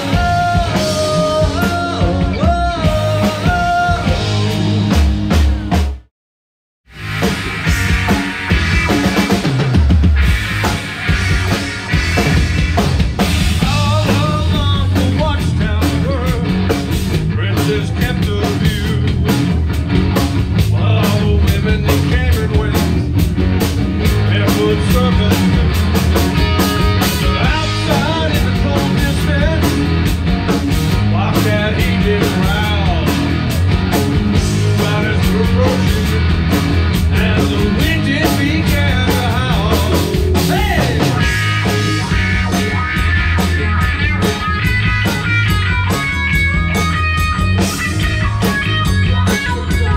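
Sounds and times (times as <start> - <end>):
electric guitar: 0.0 - 6.0, 6.9 - 49.9
drum kit beat: 0.0 - 6.1, 6.9 - 49.9
electric bass line: 0.0 - 6.1, 6.9 - 49.9.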